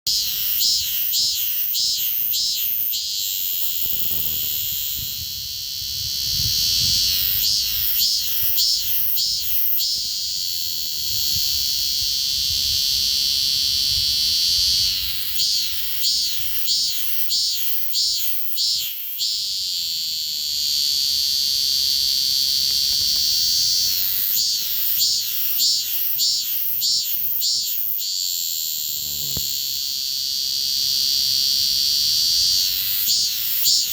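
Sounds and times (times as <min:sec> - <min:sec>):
cicada buzzing: 0:00.0 - 0:33.9.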